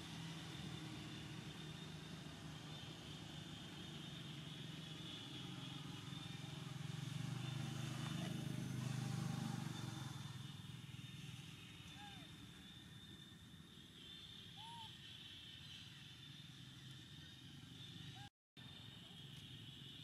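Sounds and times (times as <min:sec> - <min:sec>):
distant vehicle engine hum: 0:00.0 - 0:20.0
steady high-pitched whine: 0:00.0 - 0:20.0.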